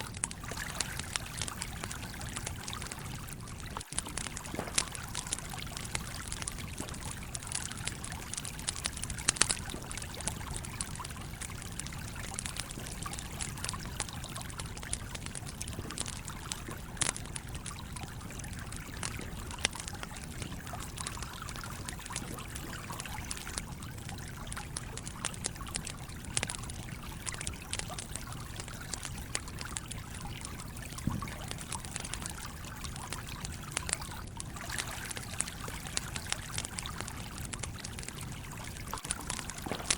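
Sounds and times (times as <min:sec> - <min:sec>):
campfire crackling and popping: 0:00.0 - 0:39.9
stream trickling: 0:00.0 - 0:39.9.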